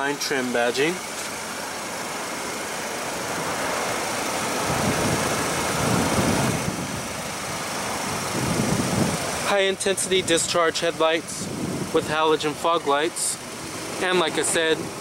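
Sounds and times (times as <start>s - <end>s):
car engine noise: 0.0s - 15.0s.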